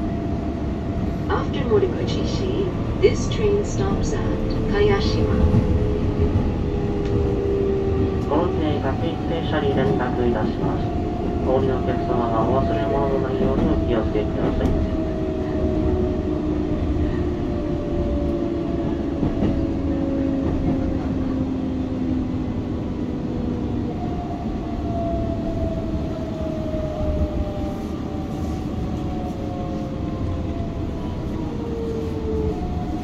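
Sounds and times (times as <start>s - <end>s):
train running rumble: 0.0s - 33.0s.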